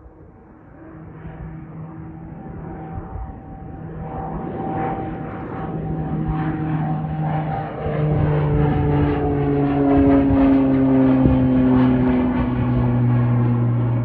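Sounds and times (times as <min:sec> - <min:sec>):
propeller planes droning: 0:00.0 - 0:14.0.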